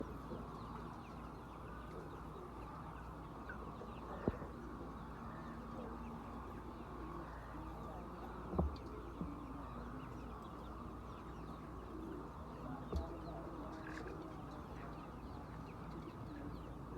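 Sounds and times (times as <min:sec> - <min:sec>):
chickens clucking softly: 0:00.0 - 0:16.9.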